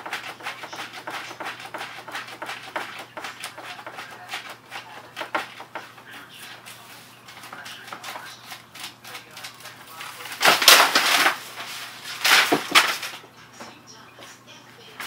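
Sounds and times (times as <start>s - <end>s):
paper rustling and crinkling: 0.1s - 13.2s.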